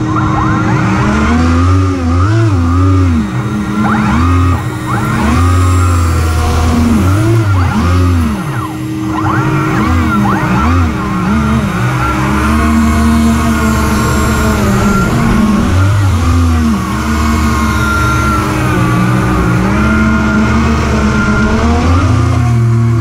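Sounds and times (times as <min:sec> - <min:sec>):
propeller motors whining: 0:00.0 - 0:23.0
lift fan humming: 0:00.8 - 0:23.0.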